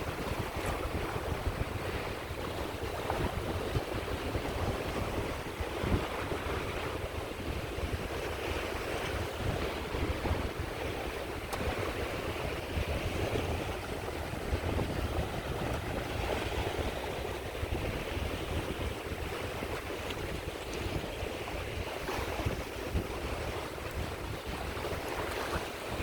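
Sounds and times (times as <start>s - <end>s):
waves washing onto shore: 0.0s - 26.0s
wind rumbling on microphone: 0.0s - 26.0s.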